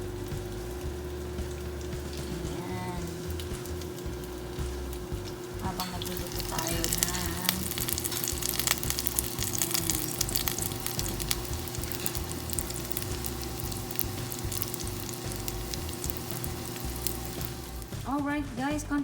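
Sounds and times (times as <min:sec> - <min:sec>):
fritters sizzling in hot oil: 0:00.0 - 0:18.1.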